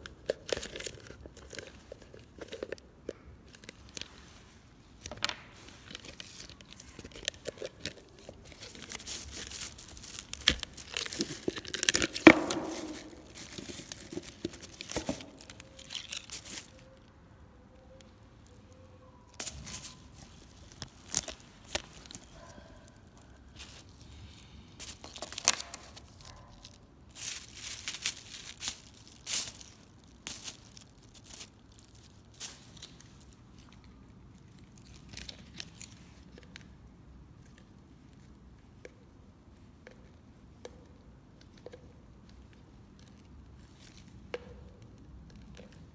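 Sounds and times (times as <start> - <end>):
plastic cups crackling and cracking: 0.0 - 39.1, 39.8 - 45.9.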